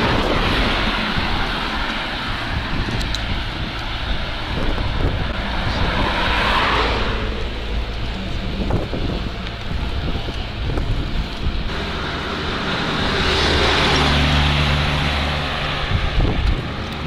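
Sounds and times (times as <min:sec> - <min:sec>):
car passing: 0:00.0 - 0:17.0
wind buffeting microphone: 0:00.0 - 0:17.0.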